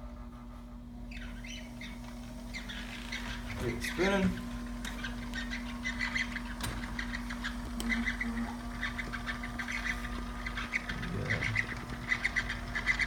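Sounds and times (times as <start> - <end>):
electric motor humming: 0.7 - 13.0
high squeaky chirps: 1.1 - 4.2, 4.9 - 13.0.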